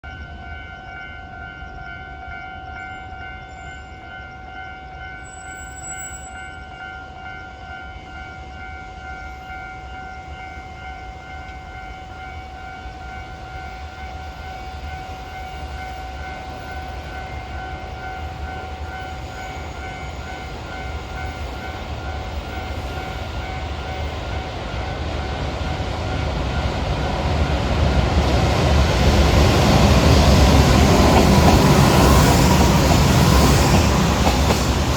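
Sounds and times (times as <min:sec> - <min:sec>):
train rumble: 0:00.0 - 0:34.9.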